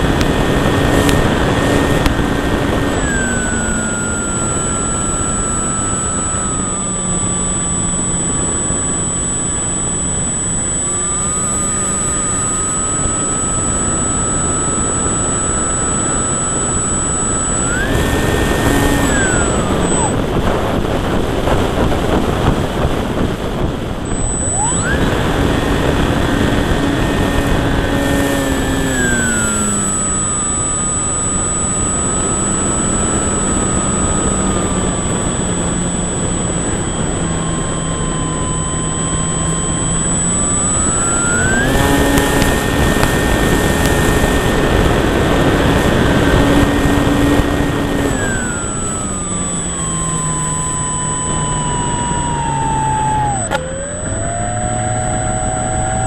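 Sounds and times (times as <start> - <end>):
model plane electric motor whine: 0.0 - 56.0
rushing wind: 10.2 - 56.0.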